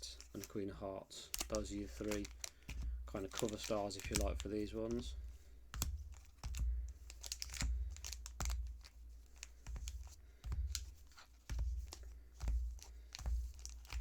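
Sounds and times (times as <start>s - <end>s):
plastic wrappers crinkling: 0.0s - 14.0s
packs knocking on table: 1.3s - 14.0s.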